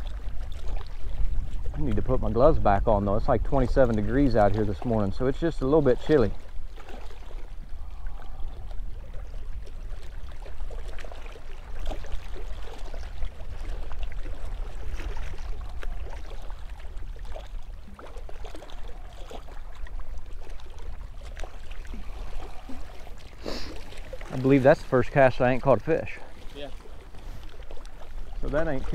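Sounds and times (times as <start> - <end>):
water lapping against rocks: 0.0 - 28.9
wind rumbling on microphone: 0.0 - 28.9.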